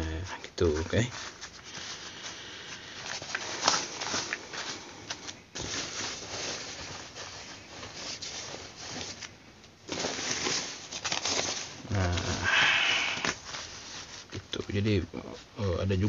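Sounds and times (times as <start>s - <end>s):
jacket fabric rustling and crinkling: 0.6s - 16.0s.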